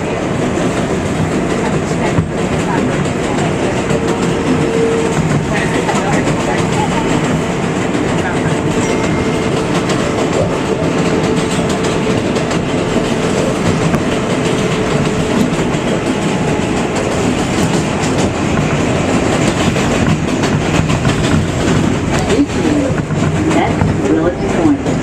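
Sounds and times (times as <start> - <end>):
rapid track clicks: 0.0 - 25.0
train wheels rumbling on rail: 0.0 - 25.0.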